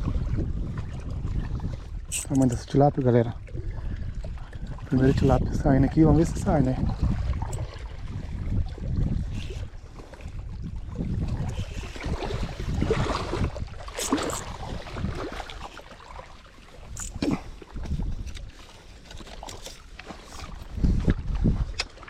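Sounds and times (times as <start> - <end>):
wind on microphone: 0.0 - 15.8, 16.7 - 22.0
water sloshing and splashing: 0.0 - 22.0.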